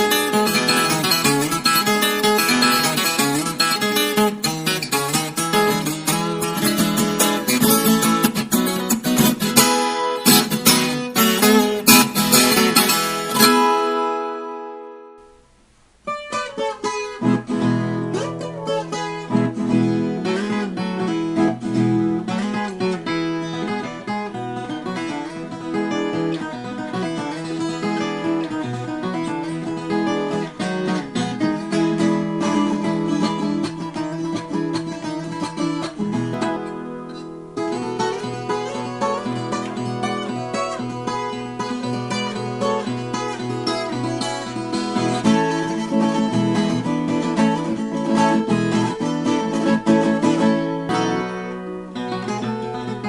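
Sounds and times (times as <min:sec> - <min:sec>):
acoustic guitar music: 0:00.0 - 0:53.0.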